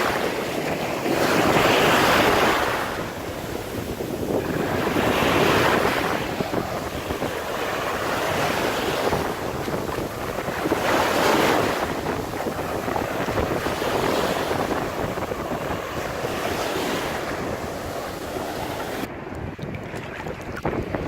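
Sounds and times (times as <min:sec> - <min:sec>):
ocean surf crashing: 0:00.0 - 0:19.3
wind rumbling on microphone: 0:00.0 - 0:21.0.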